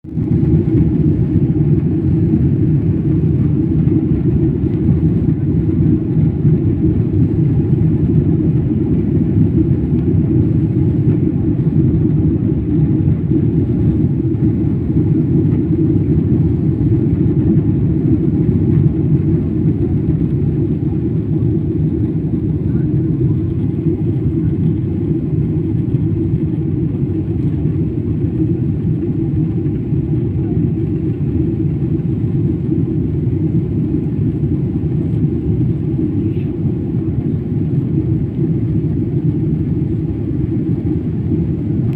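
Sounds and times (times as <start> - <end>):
jet engines rumbling at takeoff: 0.0 - 41.9.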